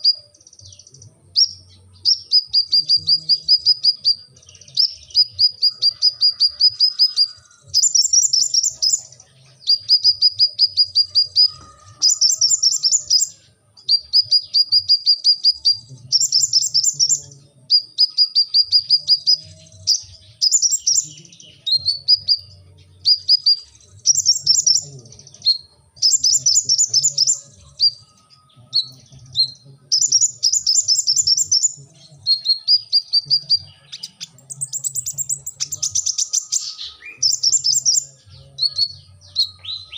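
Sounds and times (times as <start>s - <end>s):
sunbird trilling song: 0.0s - 39.9s.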